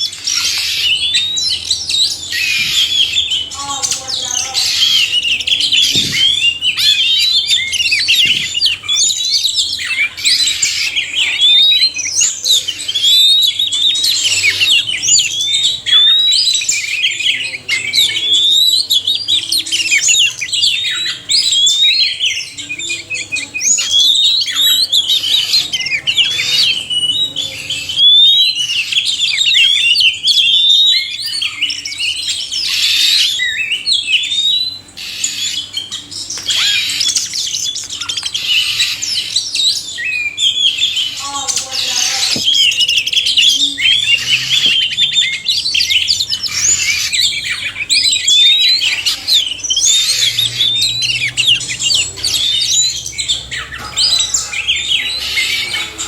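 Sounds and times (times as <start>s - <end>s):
songbirds singing in chorus: 0.0s - 56.0s.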